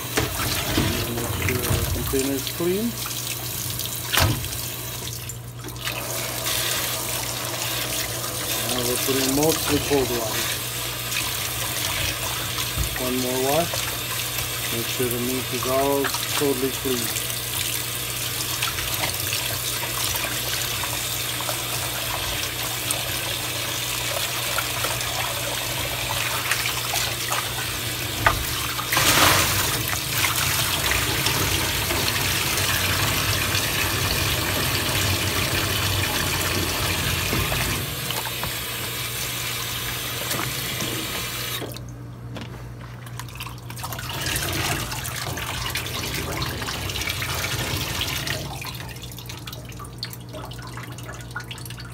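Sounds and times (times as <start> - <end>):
faucet running into tub: 0.0 - 41.8, 43.1 - 51.9.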